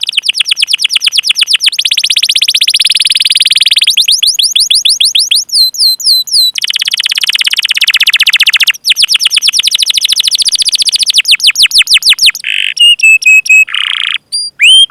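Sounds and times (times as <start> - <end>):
canary singing: 0.0 - 14.9.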